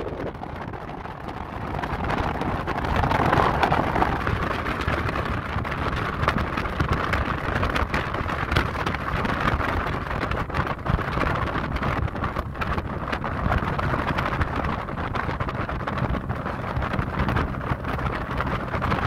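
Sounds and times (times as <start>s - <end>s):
vehicle running noise: 0.0s - 19.0s
wind rushing and buffeting: 0.0s - 19.0s.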